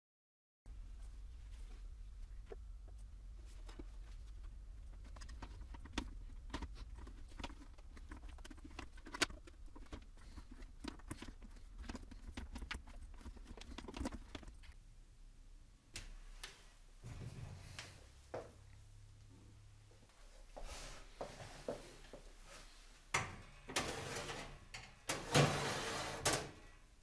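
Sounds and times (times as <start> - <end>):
low steady hum: 0.7 - 27.0.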